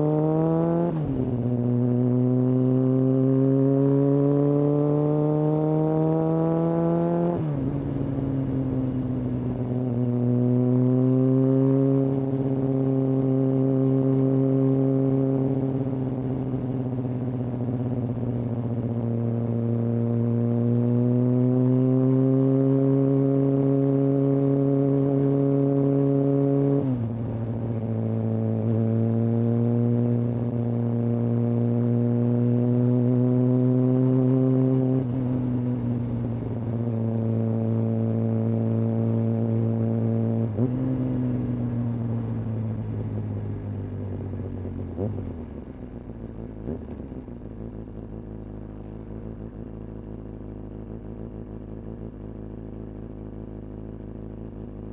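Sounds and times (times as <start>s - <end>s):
motorcycle engine under way: 0.0s - 54.9s.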